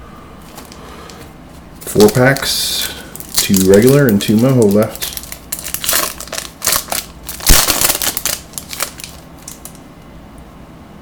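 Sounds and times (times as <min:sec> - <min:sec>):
foil wrapper crinkling and tearing: 0:00.4 - 0:01.2, 0:01.8 - 0:09.8.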